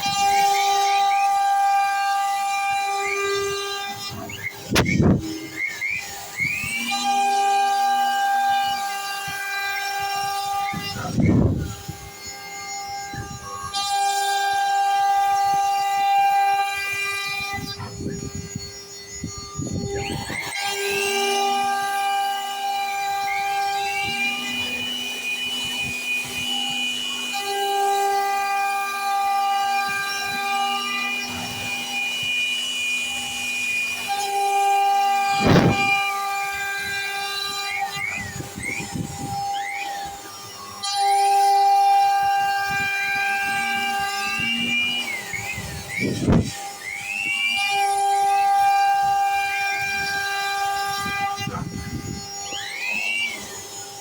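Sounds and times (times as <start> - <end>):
router spindle whining carving wood: 0.0 - 54.0.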